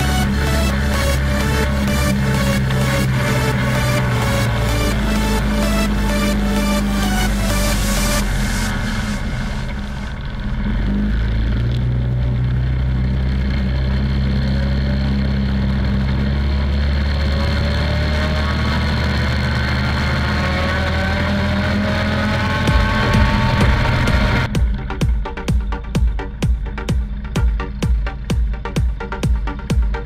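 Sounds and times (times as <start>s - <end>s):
quad bike engine accelerating: 0.0s - 30.0s.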